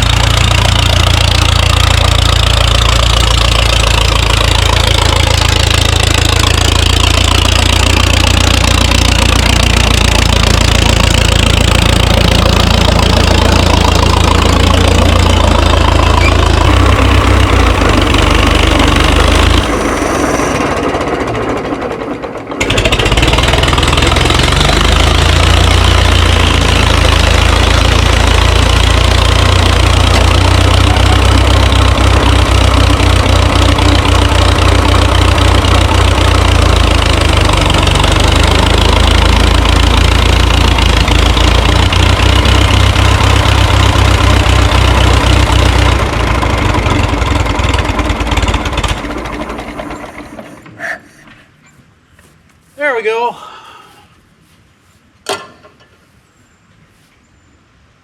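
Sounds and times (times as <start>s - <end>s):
tractor engine running: 0.0s - 53.6s.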